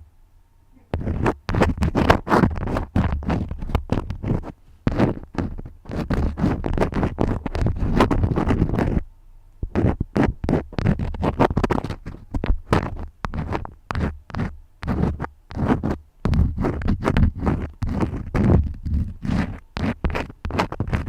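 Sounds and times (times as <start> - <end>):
crayon scratching on paper: 0.9 - 9.0, 9.6 - 21.0.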